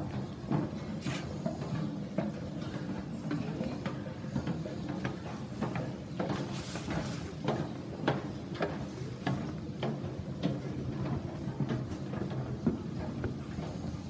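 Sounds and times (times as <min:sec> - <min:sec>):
footsteps on metal stairs: 0:00.0 - 0:14.0.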